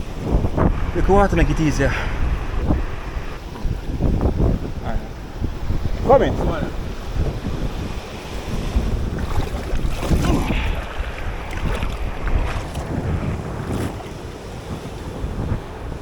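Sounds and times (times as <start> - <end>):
sea waves washing over reef: 0.0 - 16.0
wind buffeting microphone: 0.0 - 16.0.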